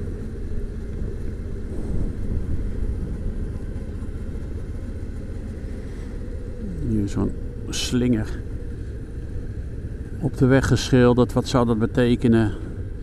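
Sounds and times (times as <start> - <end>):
vehicle road and wind noise: 0.0 - 13.0.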